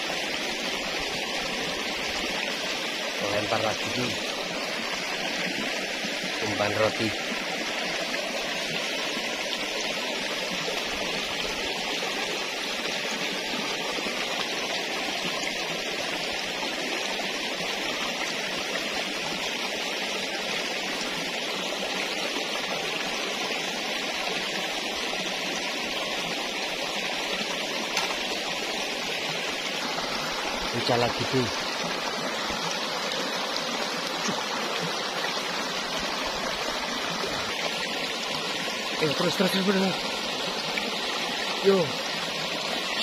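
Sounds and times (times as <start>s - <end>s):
river water rushing over rocks: 0.0s - 43.0s.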